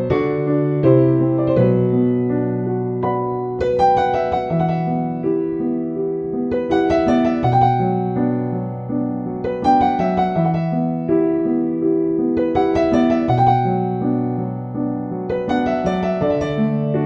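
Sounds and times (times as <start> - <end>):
calm piano chords: 0.0 - 17.0.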